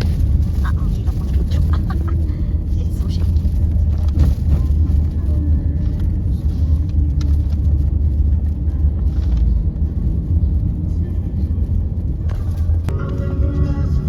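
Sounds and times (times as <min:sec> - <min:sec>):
car cabin rumble on rough road: 0:00.0 - 0:14.0.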